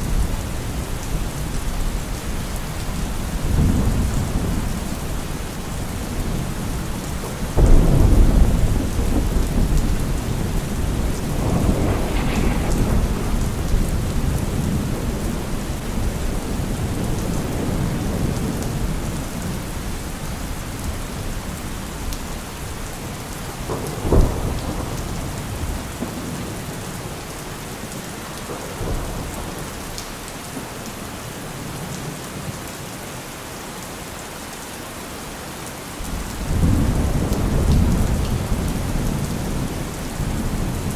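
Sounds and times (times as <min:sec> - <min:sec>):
thunder clap and rumble: 0:00.0 - 0:30.7, 0:36.0 - 0:40.9
heavy rain falling: 0:00.0 - 0:40.9.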